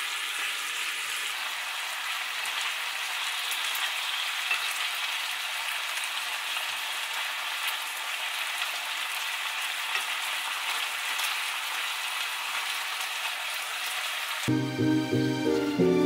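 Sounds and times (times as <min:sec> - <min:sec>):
meat sizzling in a frying pan: 0:00.0 - 0:14.5.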